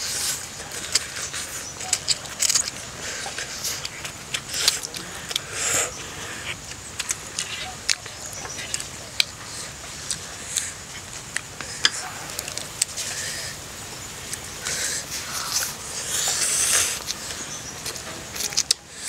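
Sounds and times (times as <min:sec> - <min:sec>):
chewing: 0:00.0 - 0:13.6, 0:14.2 - 0:19.0
people slurping noodles: 0:00.0 - 0:19.0.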